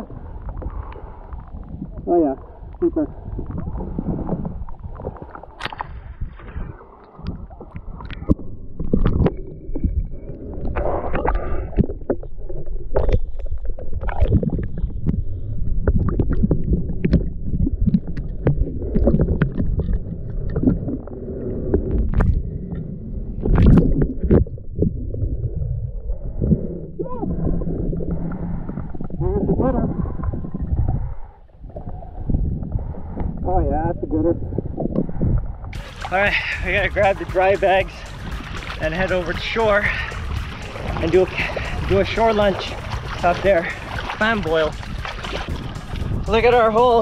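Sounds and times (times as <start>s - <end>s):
sea water sloshing and splashing: 0.0s - 26.7s, 35.4s - 47.0s
muffled underwater gurgling rumble: 0.0s - 47.0s.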